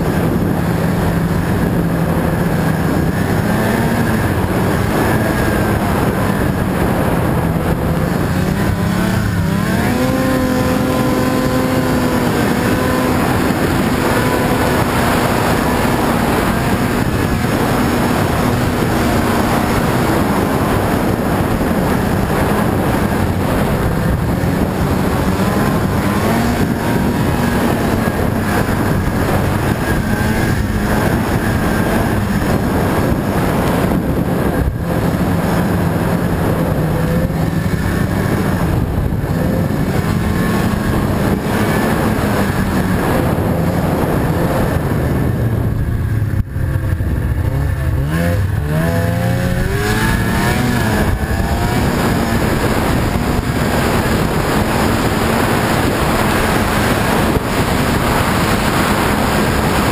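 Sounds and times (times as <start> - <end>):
rushing ride noise: 0.0 - 59.9
snowmobile engine running: 0.0 - 59.9.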